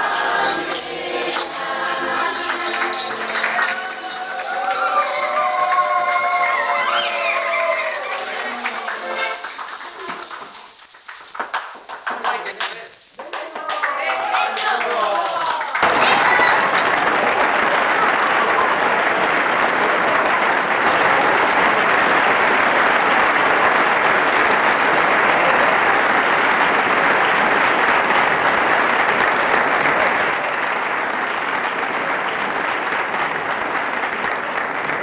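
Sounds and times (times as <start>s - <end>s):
crowd applauding: 0.0s - 35.0s.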